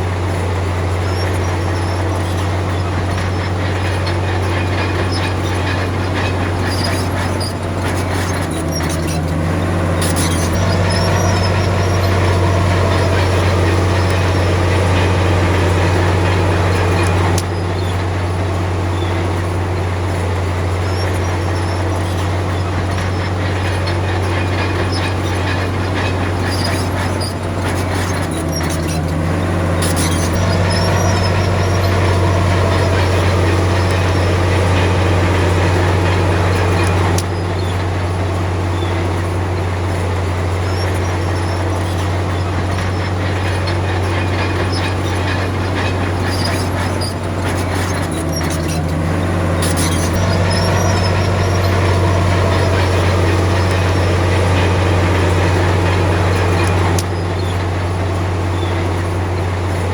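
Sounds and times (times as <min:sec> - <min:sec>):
bulldozer diesel engine running: 0:00.0 - 0:59.9
machine clanks and knocks: 0:00.0 - 0:59.9.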